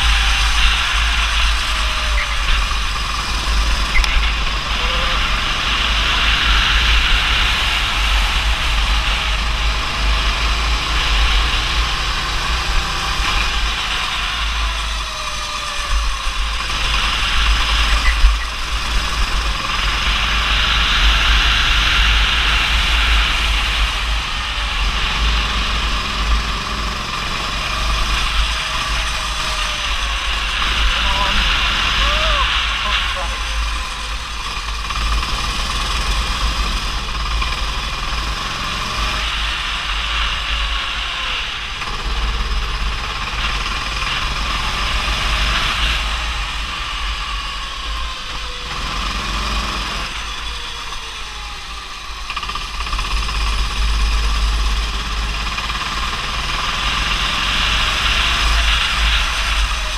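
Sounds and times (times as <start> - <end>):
go-kart engine revving: 0.0 - 59.9.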